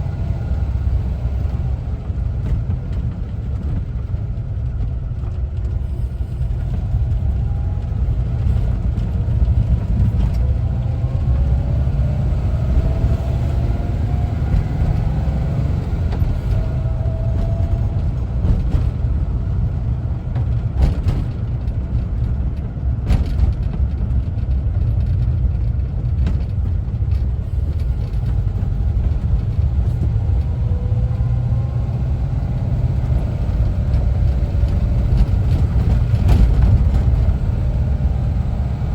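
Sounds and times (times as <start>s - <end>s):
camper bus engine rumbling: 0.0s - 38.9s.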